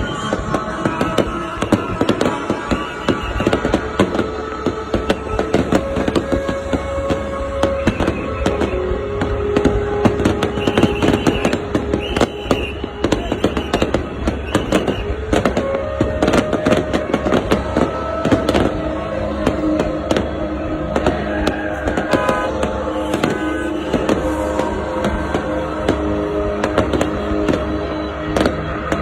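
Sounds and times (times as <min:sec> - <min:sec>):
fireworks cracking and popping: 0:00.0 - 0:29.0
music playing: 0:00.0 - 0:29.0.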